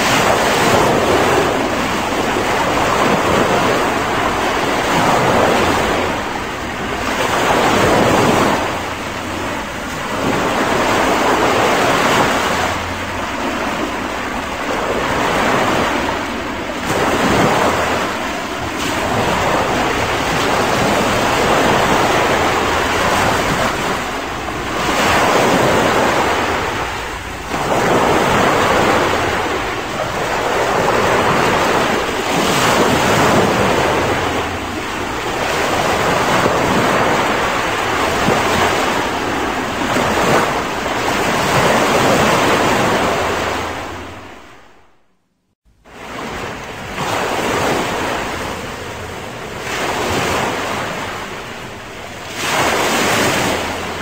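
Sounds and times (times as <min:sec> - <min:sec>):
small waves breaking on sand: 0:00.0 - 0:44.8, 0:45.8 - 0:54.0.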